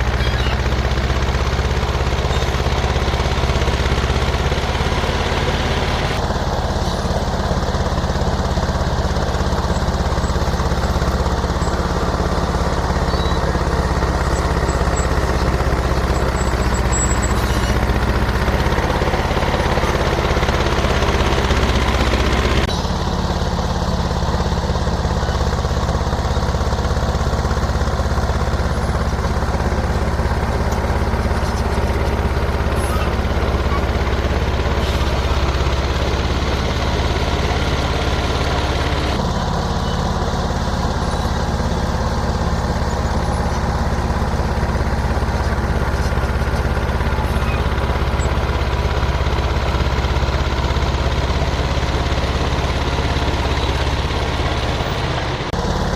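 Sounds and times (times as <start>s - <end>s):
bulldozer engine running: 0.0s - 55.9s.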